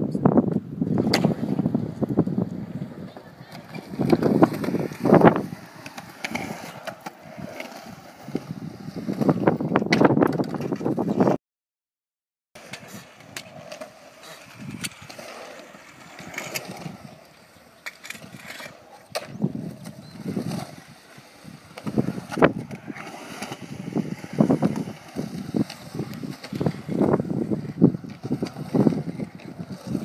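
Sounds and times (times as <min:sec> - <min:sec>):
skateboard wheels rolling on concrete: 0:00.0 - 0:11.4, 0:12.6 - 0:30.0
skateboard clicks and knocks: 0:00.5 - 0:11.4, 0:12.6 - 0:30.0.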